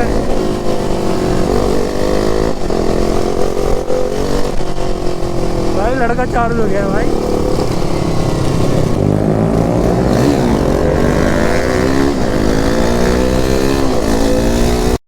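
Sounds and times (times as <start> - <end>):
motorcycle engines accelerating: 0.0 - 15.0.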